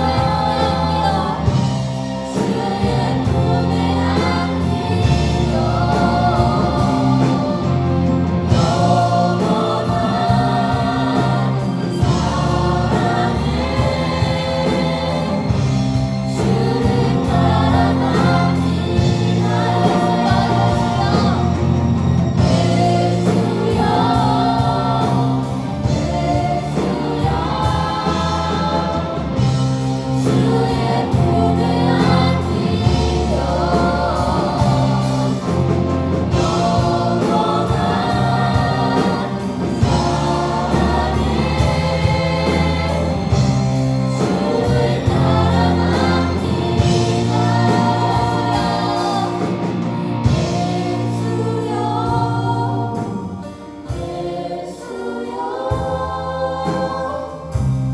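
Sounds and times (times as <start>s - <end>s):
band accompaniment: 0.0s - 57.9s
group singing gospel song: 0.0s - 57.9s.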